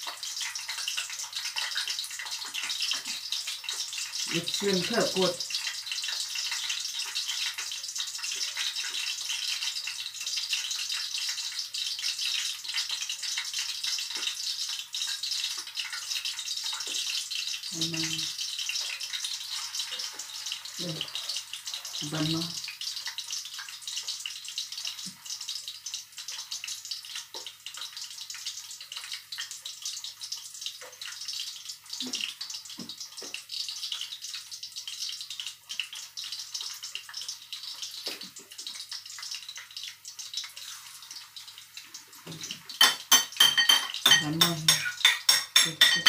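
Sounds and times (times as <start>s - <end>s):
patties sizzling in oil: 0.0s - 46.0s.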